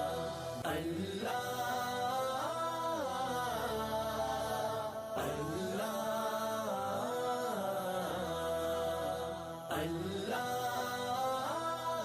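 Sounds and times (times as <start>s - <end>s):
slow chant-like vocal melody: 0.0s - 12.0s.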